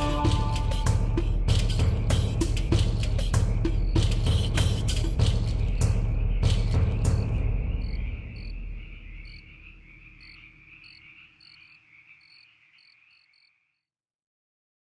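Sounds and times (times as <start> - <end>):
insects buzzing: 0.0 - 13.6.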